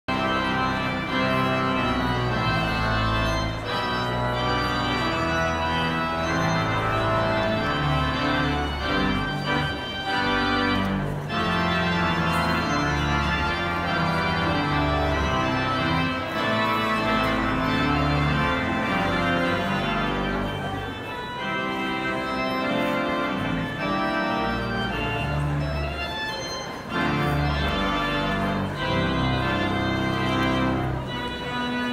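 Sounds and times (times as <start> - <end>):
organ playing processional music: 0.1 - 31.9.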